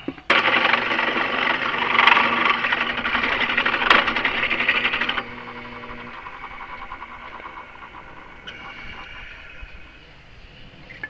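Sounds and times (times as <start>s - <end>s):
electric drill boring: 0.3s - 10.3s.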